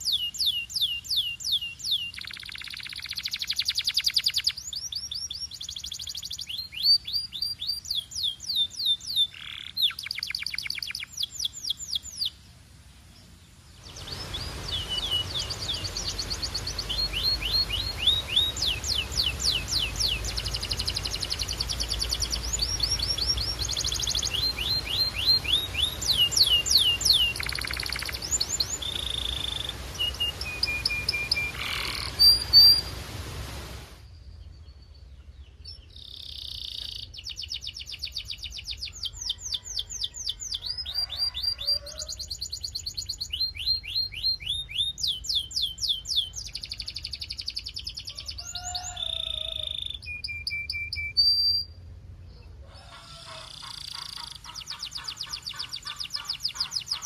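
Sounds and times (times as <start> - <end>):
canary singing: 0.0 - 12.4, 13.9 - 33.0, 35.7 - 51.9, 52.9 - 57.0
background hiss: 0.0 - 40.7, 41.3 - 57.0.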